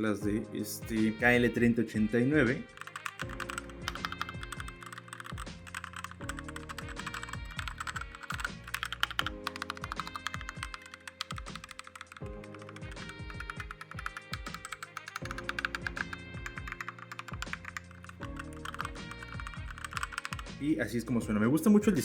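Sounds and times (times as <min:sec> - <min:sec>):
soft background music: 0:00.0 - 0:22.0
mechanical keyboard typing: 0:02.7 - 0:20.6.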